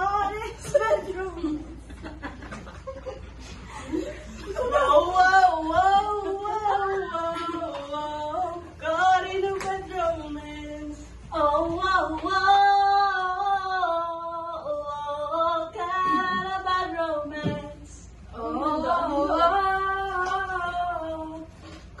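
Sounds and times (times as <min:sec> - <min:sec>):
woman singing: 0:00.0 - 0:01.8, 0:04.6 - 0:21.6.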